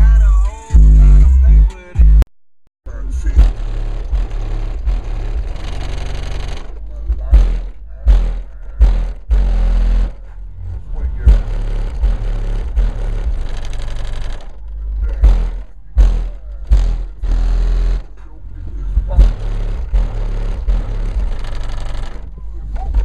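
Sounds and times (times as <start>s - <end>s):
deep bass hits: 0.0s - 2.2s, 2.9s - 23.0s
rapped vocal: 0.0s - 2.2s, 2.9s - 23.0s.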